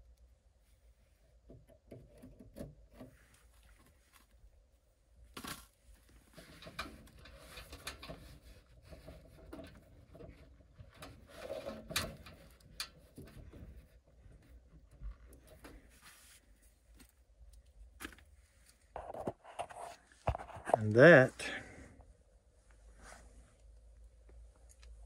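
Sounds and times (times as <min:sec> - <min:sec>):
hands tapping and rubbing wiring: 0:00.0 - 0:04.6, 0:05.2 - 0:21.1.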